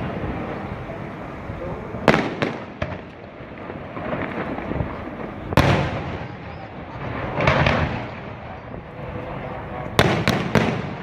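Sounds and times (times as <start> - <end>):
fireworks exploding with rolling echo: 0.0 - 11.0.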